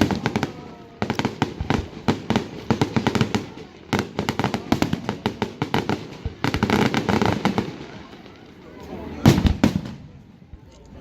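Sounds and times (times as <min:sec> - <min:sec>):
fireworks bangs and crackle: 0:00.0 - 0:10.7.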